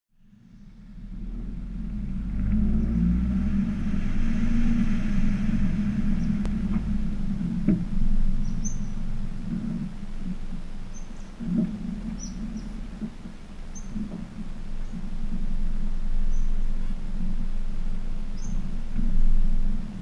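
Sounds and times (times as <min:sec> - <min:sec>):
car engine and road rumble: 0:00.1 - 0:20.0.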